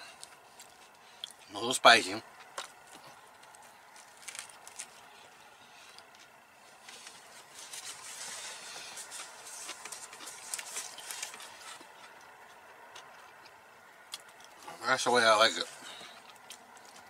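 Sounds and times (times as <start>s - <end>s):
man chewing food: 0.0s - 1.5s, 2.2s - 14.8s, 15.6s - 17.0s.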